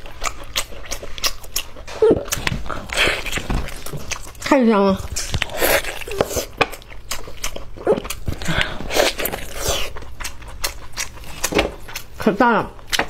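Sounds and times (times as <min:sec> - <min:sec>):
chewing and biting food: 0:00.0 - 0:13.0.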